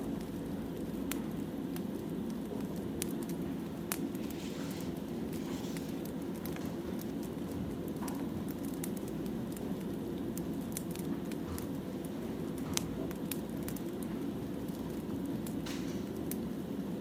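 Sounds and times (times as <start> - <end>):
firewood crackling and popping: 0.0 - 17.0.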